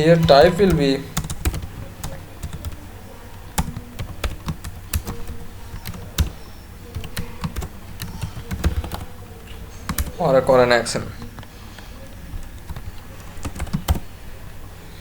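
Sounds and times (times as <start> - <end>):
keyboard typing: 0.0 - 14.1
low electrical hum: 0.0 - 15.0.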